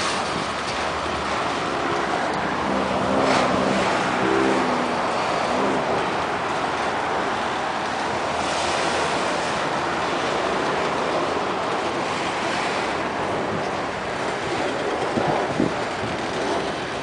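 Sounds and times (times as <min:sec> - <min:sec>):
freight train wheels on rails: 0:00.0 - 0:17.0.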